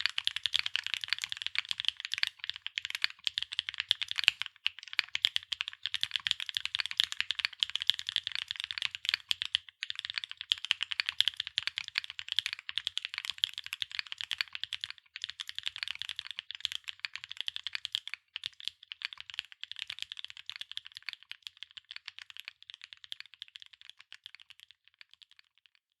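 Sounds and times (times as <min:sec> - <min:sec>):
mechanical keyboard typing: 0:00.0 - 0:24.6.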